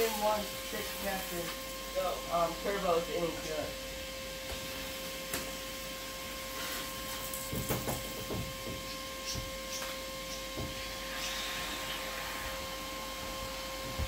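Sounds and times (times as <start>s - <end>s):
electrical hum with high whine: 0.0s - 14.0s.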